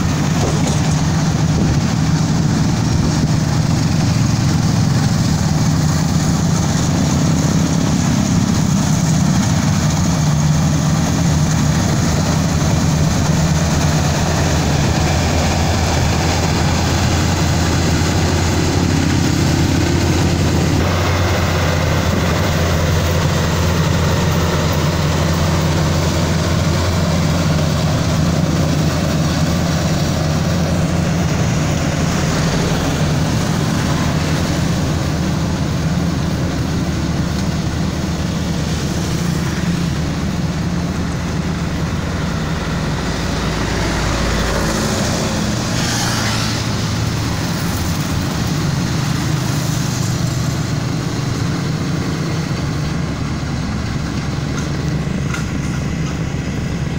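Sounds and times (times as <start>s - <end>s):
combine harvester engine drone: 0.0s - 56.9s
machinery noise: 0.0s - 56.9s.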